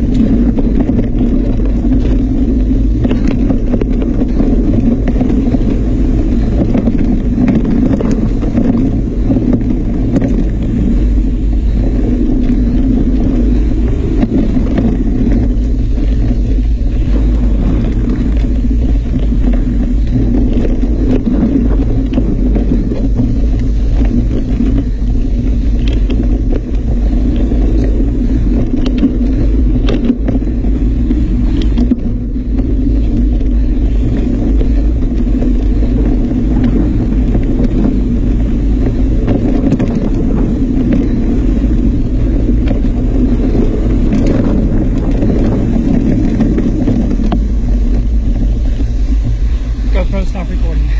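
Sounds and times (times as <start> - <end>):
small clicks and rattles: 0.0 - 50.7
wind rumble on camera: 0.0 - 50.9.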